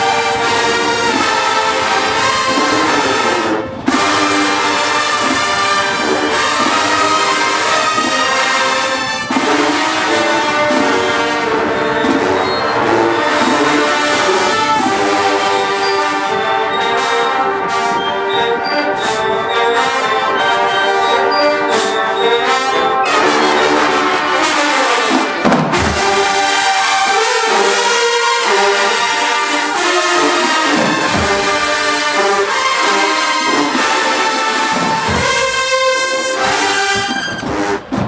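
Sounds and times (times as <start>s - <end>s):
marching band brass chords: 0.0s - 38.0s
percussion hits: 0.0s - 38.0s.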